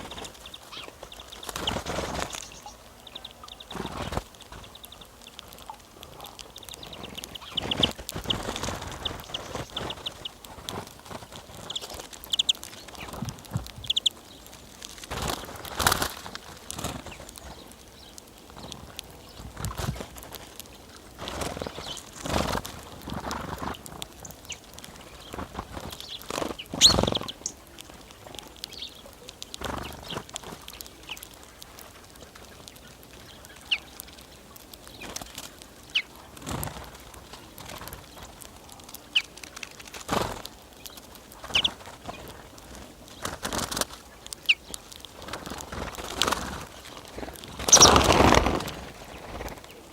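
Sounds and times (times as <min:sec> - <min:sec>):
wings flapping and rustling: 0:00.0 - 0:49.9.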